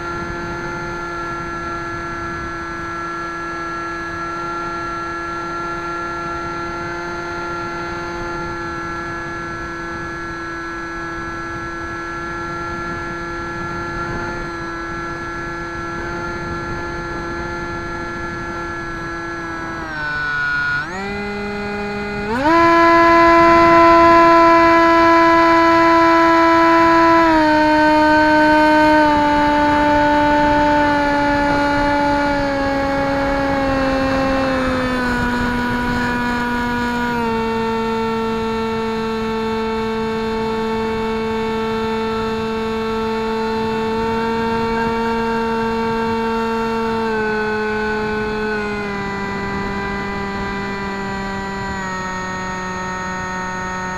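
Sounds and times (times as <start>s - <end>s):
electric motor and propeller whine: 0.0s - 53.9s
rush of wind: 0.0s - 53.9s.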